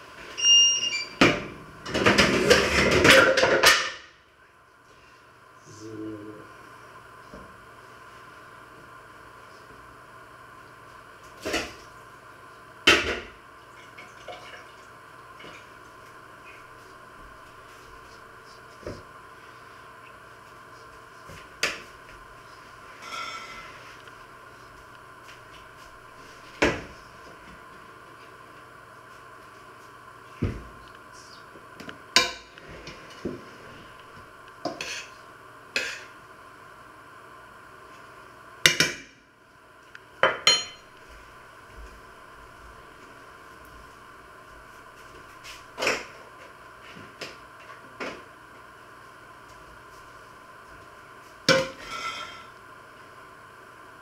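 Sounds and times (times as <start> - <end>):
faint hum: 0.0 - 54.0.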